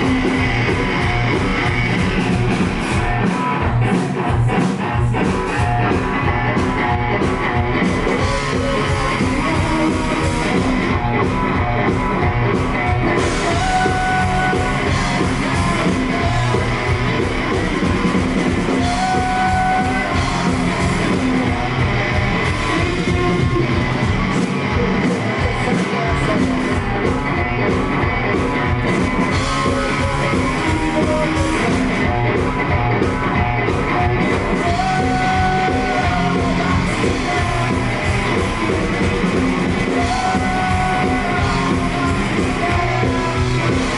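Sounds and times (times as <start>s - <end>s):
drum beat: 0.0s - 43.9s
electric guitar: 0.0s - 43.9s
live rock band playing: 0.0s - 43.9s.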